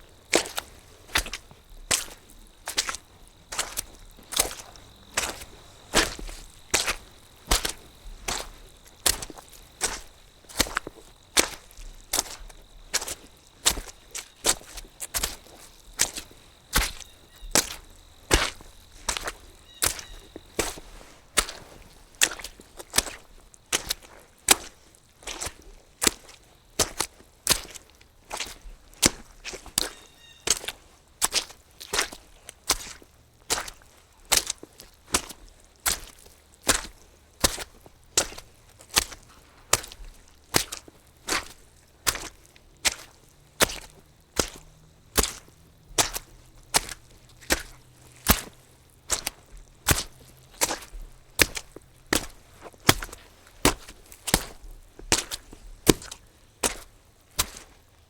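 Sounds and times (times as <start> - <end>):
footsteps squelching on wet ground: 0.0 - 58.0.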